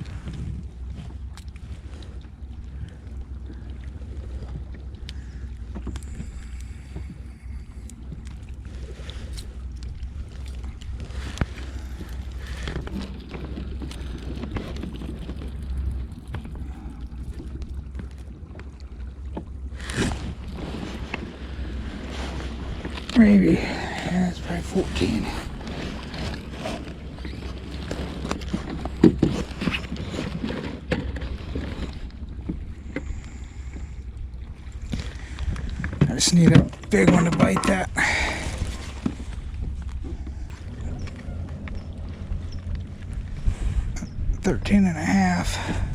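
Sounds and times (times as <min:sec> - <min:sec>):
wind rumbling on microphone: 0:00.0 - 0:45.9.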